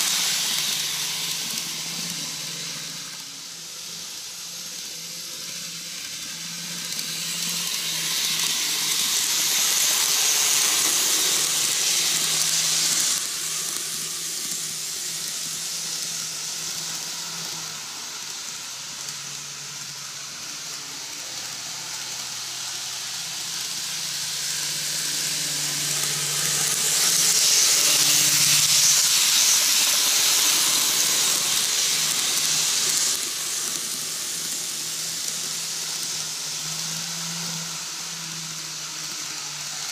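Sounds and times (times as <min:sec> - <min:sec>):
model train wheels rolling on rails: 0:00.0 - 0:39.9.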